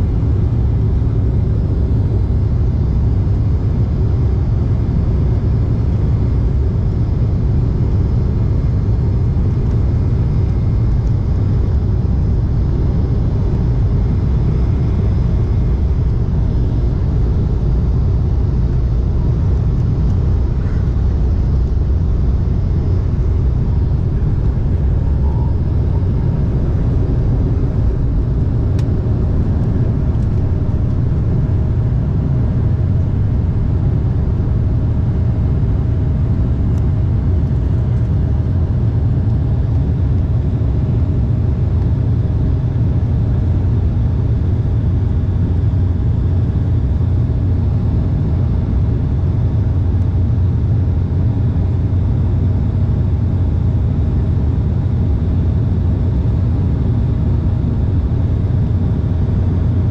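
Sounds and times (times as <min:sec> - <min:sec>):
faint steady whines: 0:00.0 - 0:59.9
jet engine and airflow rumble: 0:00.0 - 0:59.9.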